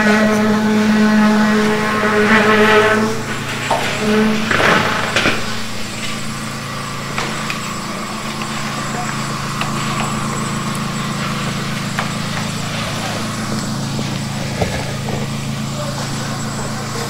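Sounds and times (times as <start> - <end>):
small engine droning: 0.0 - 17.0.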